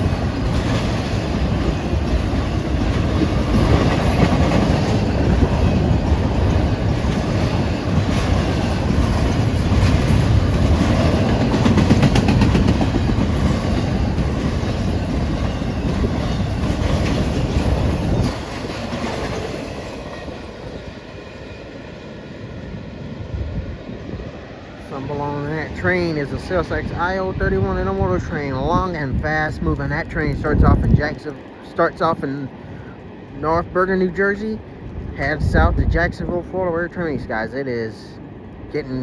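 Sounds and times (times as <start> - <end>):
clickety-clack over rail joints: 0.0 - 22.2, 24.3 - 39.0
freight train passing: 0.0 - 39.0.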